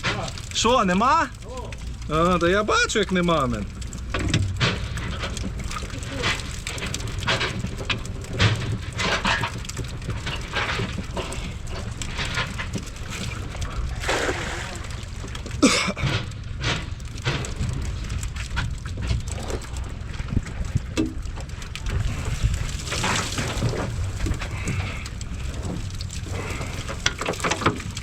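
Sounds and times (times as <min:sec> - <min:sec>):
water splashing and dripping: 0:00.0 - 0:28.0.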